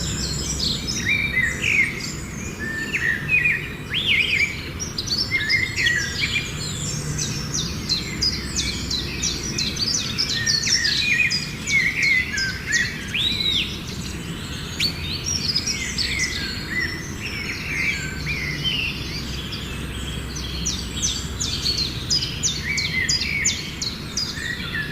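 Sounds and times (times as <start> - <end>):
songbirds chirping: 0.0 - 24.9.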